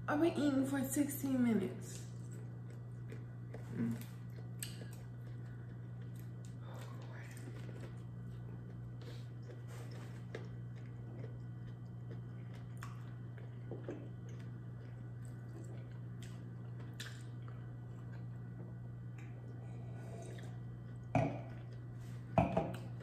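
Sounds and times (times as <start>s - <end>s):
steady low hum: 0.0s - 23.0s
soft chewing: 1.9s - 23.0s.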